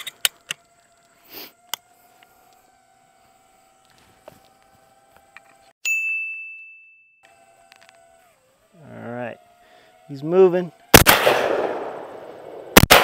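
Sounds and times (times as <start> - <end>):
distant drone motors whining: 0.0 - 5.8, 7.2 - 12.7.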